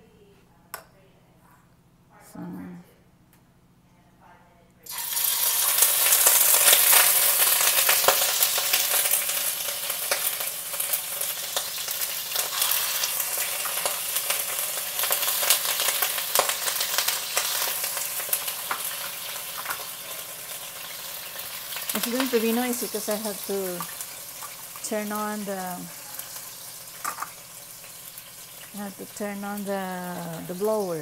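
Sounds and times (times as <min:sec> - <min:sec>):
chicken sizzling in frying pan: 0:04.9 - 0:31.0
oil crackling spatters: 0:04.9 - 0:31.0.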